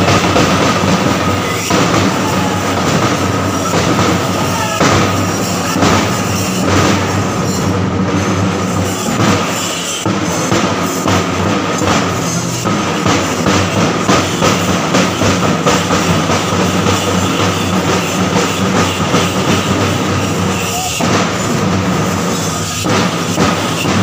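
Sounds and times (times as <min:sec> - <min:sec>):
large drums beaten fast: 0:00.0 - 0:24.0.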